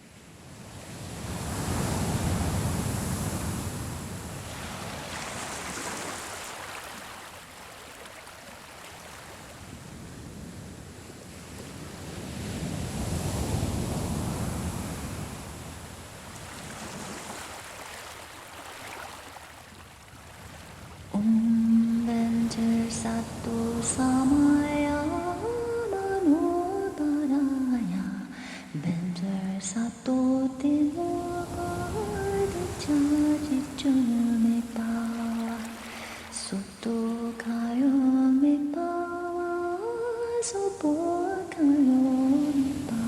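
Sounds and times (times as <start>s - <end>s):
ocean waves breaking: 0.1s - 29.7s, 30.5s - 38.2s, 39.2s - 43.0s.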